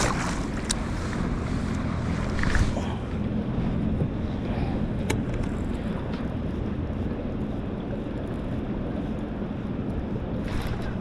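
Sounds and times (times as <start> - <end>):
water around boat: 0.0 - 11.0
wind rumbling on microphone: 0.0 - 11.0.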